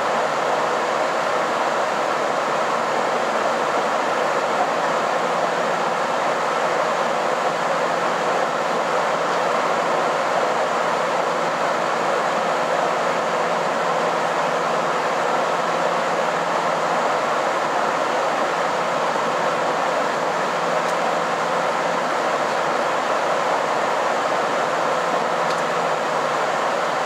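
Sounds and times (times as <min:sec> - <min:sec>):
train running hiss: 0:00.0 - 0:27.0.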